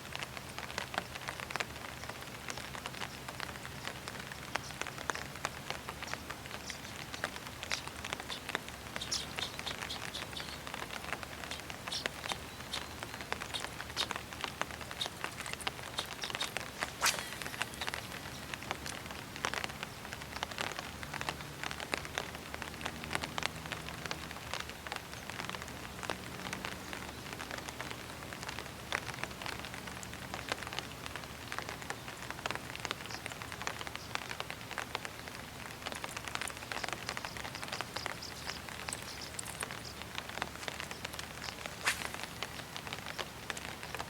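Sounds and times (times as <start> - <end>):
light rain falling: 0.0 - 44.0.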